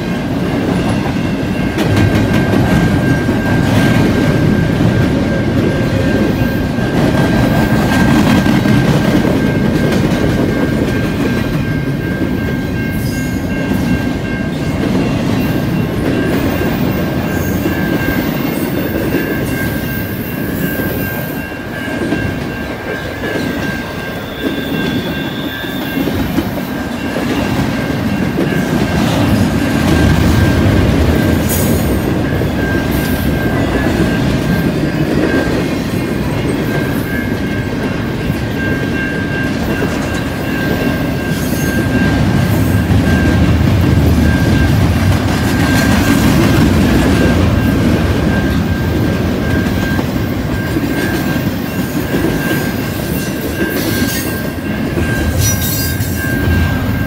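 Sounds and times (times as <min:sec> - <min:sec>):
freight train rolling past: 0:00.0 - 0:57.0
steady high tone: 0:00.0 - 0:57.0.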